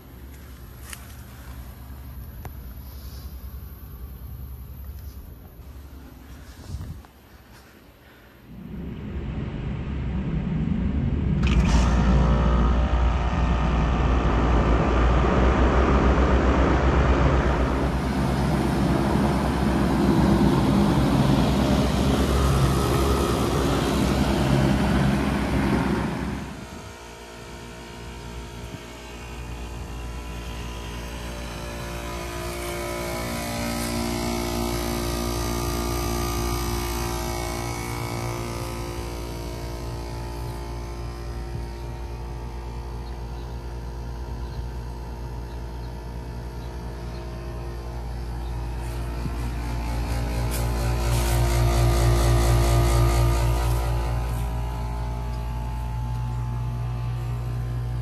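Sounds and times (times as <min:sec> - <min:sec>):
distant wall unit humming: 0:00.0 - 0:58.0
fan air rushing: 0:00.0 - 0:58.0
low compressor hum: 0:00.0 - 0:58.0.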